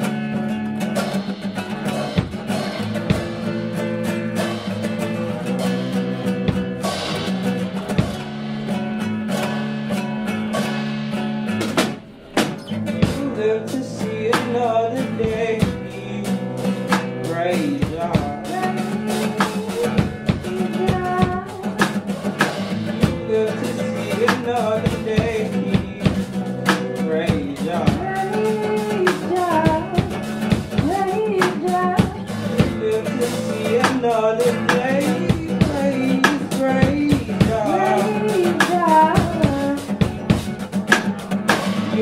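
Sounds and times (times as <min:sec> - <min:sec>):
acoustic guitar chords: 0:00.0 - 0:42.0
drum kit beat: 0:00.0 - 0:42.0.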